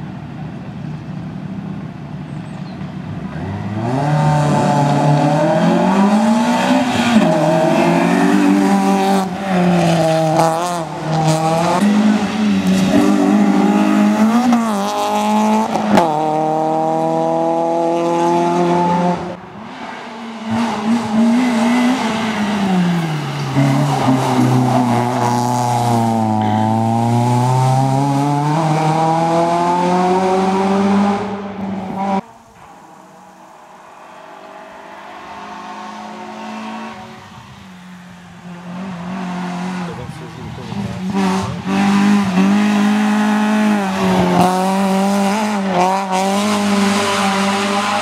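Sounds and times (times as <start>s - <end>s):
another car engine revving: 3.2s - 48.0s
race car engine revving: 3.2s - 48.0s.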